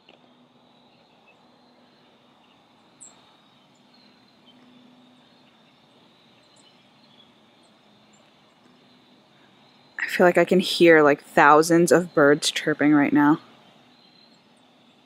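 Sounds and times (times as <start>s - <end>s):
insect trill: 0.0s - 15.0s.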